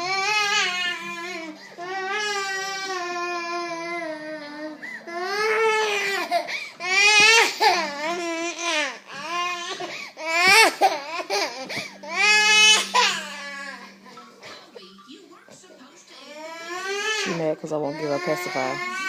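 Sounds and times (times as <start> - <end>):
baby crying: 0.0 - 14.0, 16.2 - 19.0.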